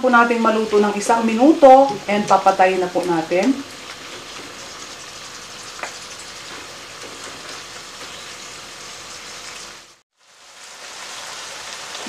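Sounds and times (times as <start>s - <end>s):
stir-fry sizzling in a pan: 0.0s - 12.0s.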